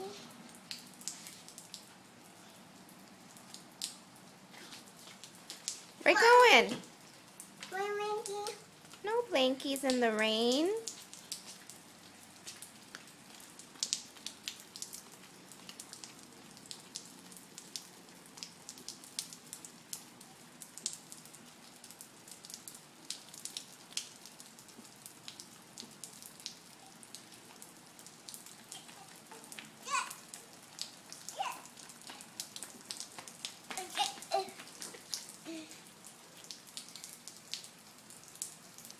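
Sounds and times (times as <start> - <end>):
rain hissing: 0.0 - 38.9
raindrops ticking close by: 0.0 - 38.9.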